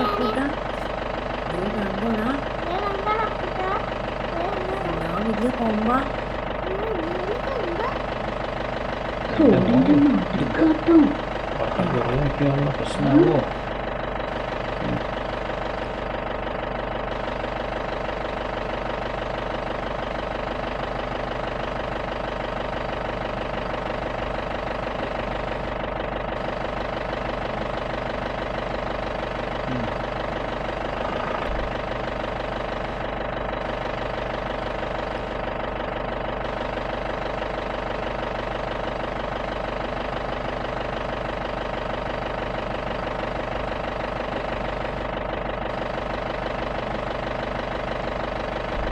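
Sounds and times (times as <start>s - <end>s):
jeep engine running: 0.0s - 48.9s.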